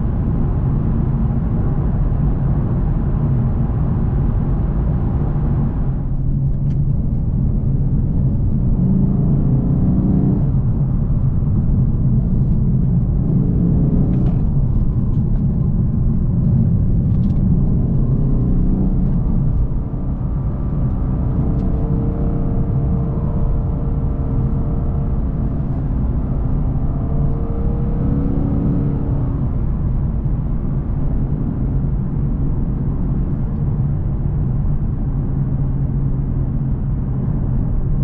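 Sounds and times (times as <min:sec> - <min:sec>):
car engine from inside cabin: 0:00.0 - 0:38.0.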